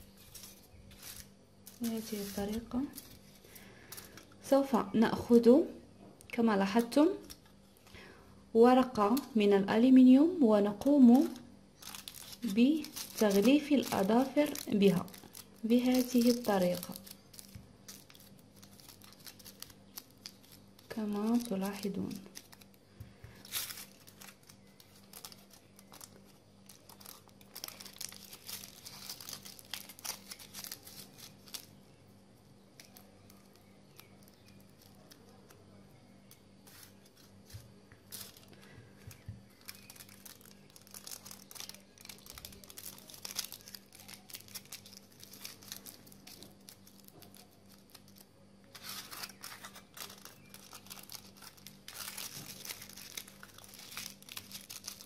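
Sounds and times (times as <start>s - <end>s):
aluminium foil crinkling: 0.0s - 5.6s, 6.3s - 55.0s.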